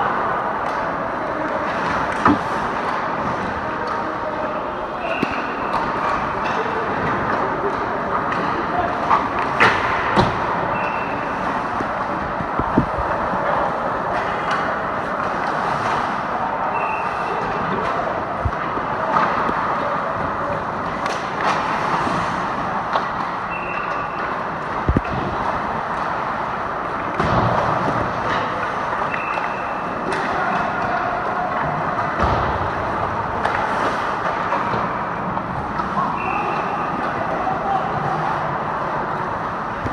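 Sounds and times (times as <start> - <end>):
pucks and sticks clacking: 0.1 - 4.3, 5.0 - 39.9
skates on ice: 5.0 - 39.9.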